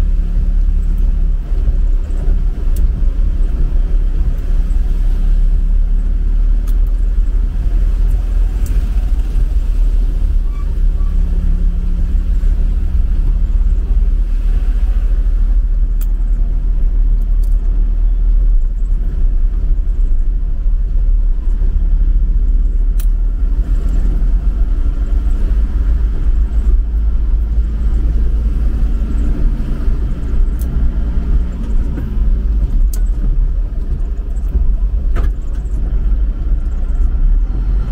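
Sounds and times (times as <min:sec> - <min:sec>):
truck engine rumble: 0:00.0 - 0:37.9.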